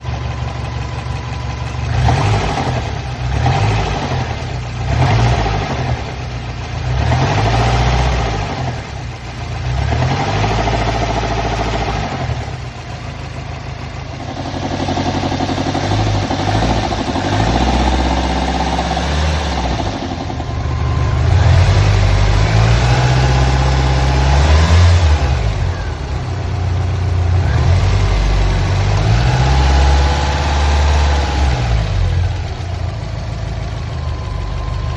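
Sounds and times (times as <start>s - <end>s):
intermittent abnormal engine noise: 0.0s - 34.9s
car engine revving: 1.7s - 13.0s, 14.2s - 34.9s.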